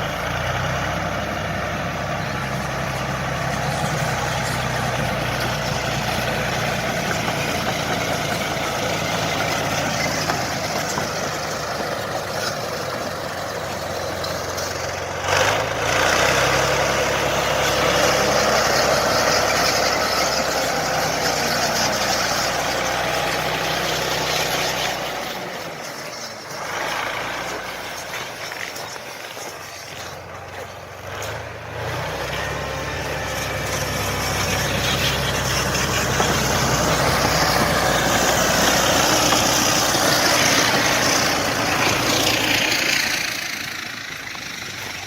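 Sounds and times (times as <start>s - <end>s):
bulldozer engine running: 0.0s - 45.0s.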